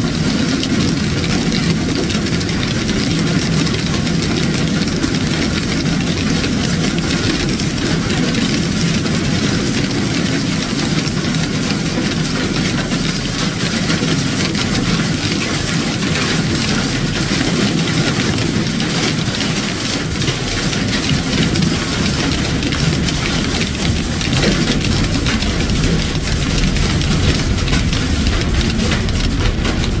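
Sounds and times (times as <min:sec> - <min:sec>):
hail and rain falling: 0:00.0 - 0:30.0.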